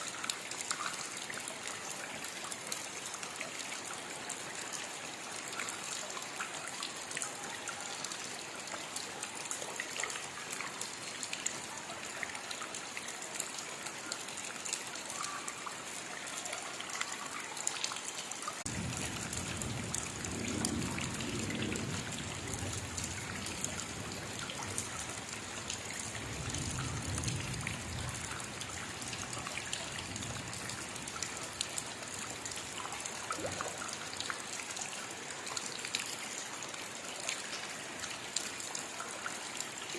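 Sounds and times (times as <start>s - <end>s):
rain patter: 0.0s - 39.9s
trickling water: 0.0s - 39.9s.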